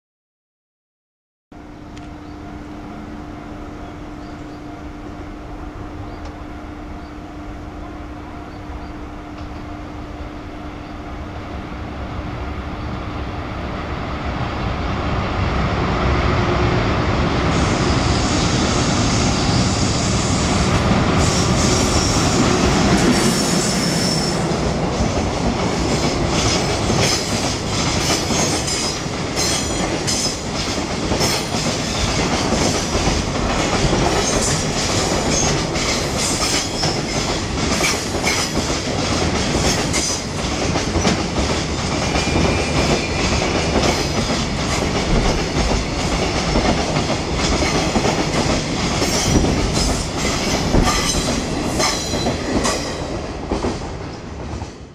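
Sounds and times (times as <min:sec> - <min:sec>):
freight train rumbling past: 0:01.6 - 0:54.9.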